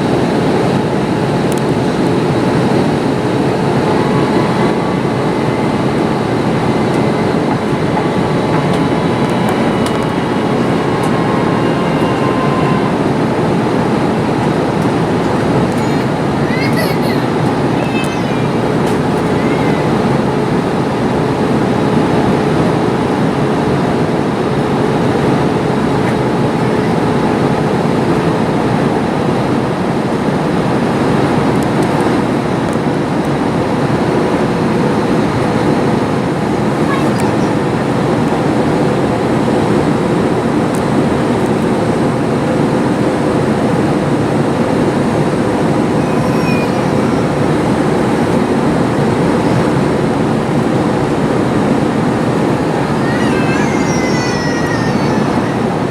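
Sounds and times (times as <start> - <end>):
airliner cabin engine rush: 0.0 - 55.9.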